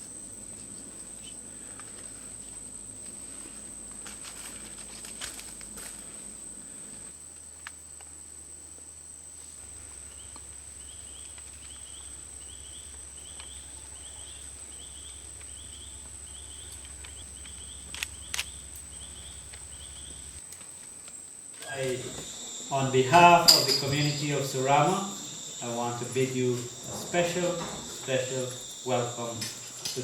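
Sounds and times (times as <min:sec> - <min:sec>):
insect chirp: 0:00.0 - 0:30.0
insect drone: 0:00.0 - 0:30.0.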